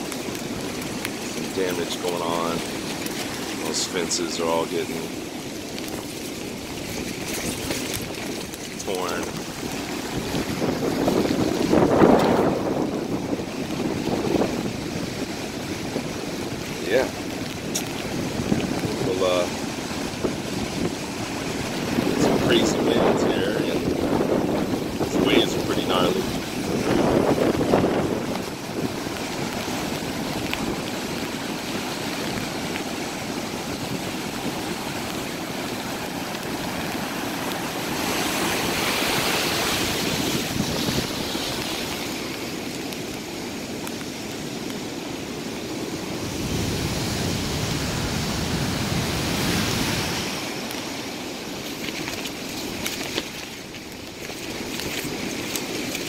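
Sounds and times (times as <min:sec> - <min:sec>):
heavy surf breaking: 0:00.0 - 0:56.0
strong wind: 0:00.0 - 0:56.0
wind buffeting microphone: 0:00.0 - 0:56.0.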